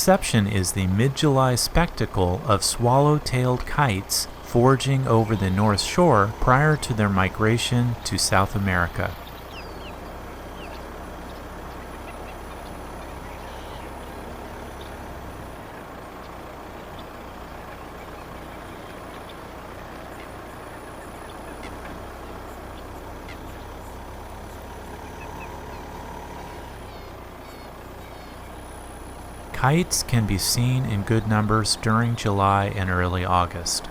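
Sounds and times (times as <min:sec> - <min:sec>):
road noise: 0:00.0 - 0:33.9
vehicle engine hum: 0:00.0 - 0:33.9.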